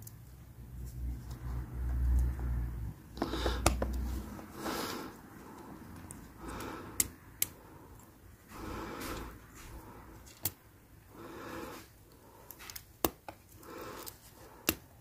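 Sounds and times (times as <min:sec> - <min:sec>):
soft breathing: 0:01.0 - 0:15.0.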